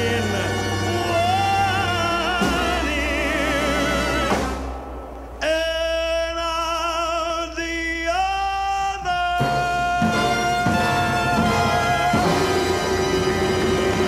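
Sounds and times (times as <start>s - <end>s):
backing track: 0.0s - 7.6s, 8.2s - 14.0s
person singing with vibrato: 0.0s - 14.0s.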